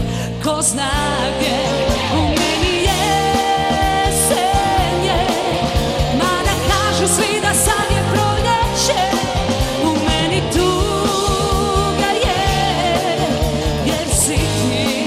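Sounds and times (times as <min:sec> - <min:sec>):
woman singing: 0:00.0 - 0:15.0
band playing: 0:00.9 - 0:15.0.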